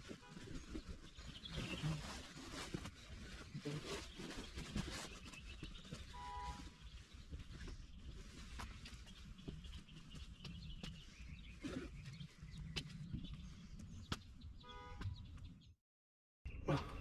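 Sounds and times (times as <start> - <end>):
birds chirping: 0.0 - 15.8.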